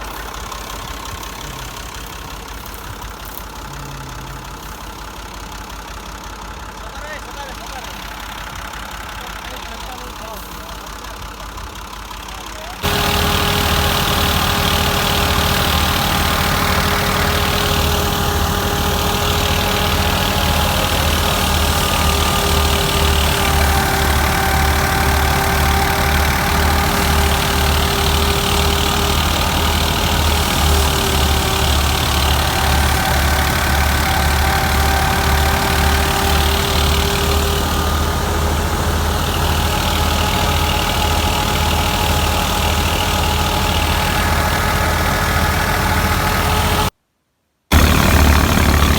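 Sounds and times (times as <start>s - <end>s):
farm machinery engine running: 0.0s - 46.9s, 47.7s - 48.9s.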